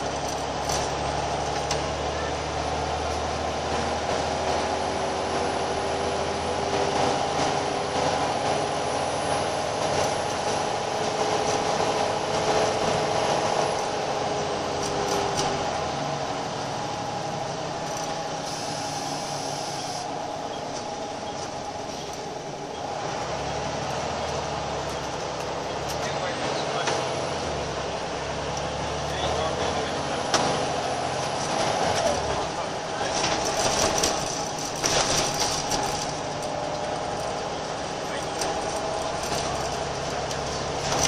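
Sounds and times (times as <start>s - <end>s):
bus engine droning with whine: 0.0s - 41.0s
road noise: 0.0s - 41.0s.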